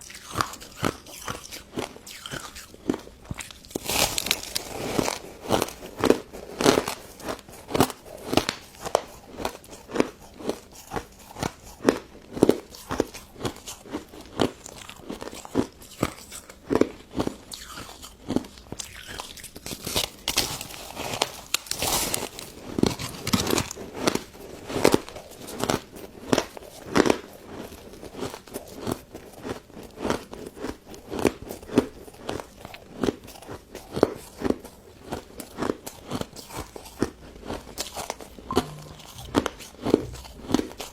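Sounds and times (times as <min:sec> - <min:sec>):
crunching and chewing ice dessert: 0:00.0 - 0:38.3.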